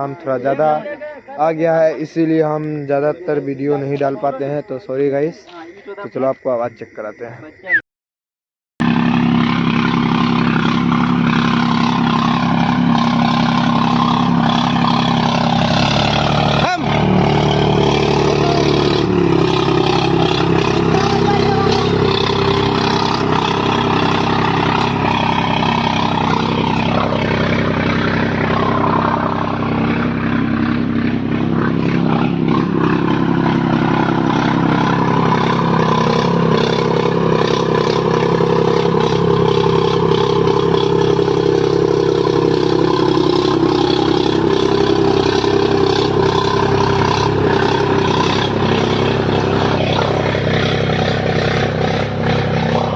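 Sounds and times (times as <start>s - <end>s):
tractor diesel engine running: 8.8s - 52.9s.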